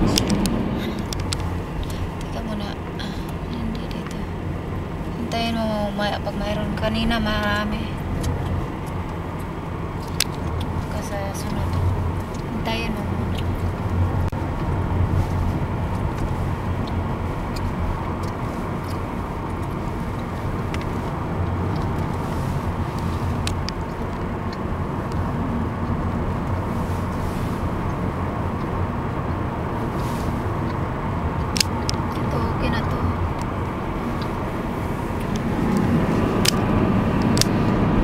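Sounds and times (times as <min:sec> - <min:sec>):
car engine hum: 0:00.0 - 0:38.0
tyre and road noise: 0:00.0 - 0:38.0.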